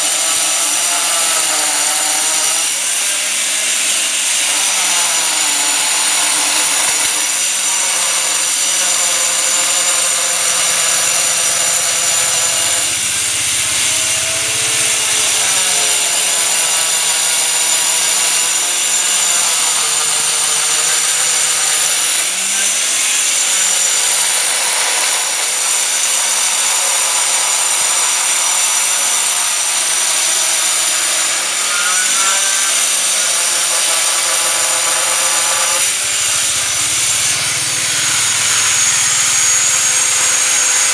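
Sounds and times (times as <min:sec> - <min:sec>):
stone-cutting saw grinding whine: 0:00.0 - 0:40.9.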